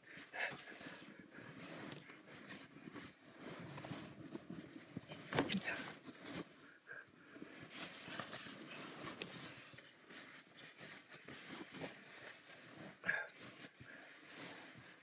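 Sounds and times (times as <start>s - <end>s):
sleeping bag rustling: 0.0s - 15.0s.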